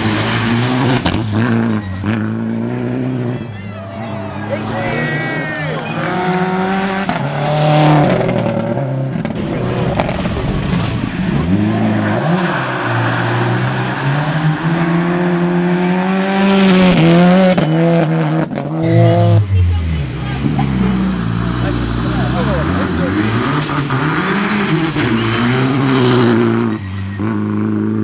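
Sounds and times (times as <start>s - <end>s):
tyre and road noise: 0.0s - 28.0s
car engine revving hard: 4.5s - 28.0s.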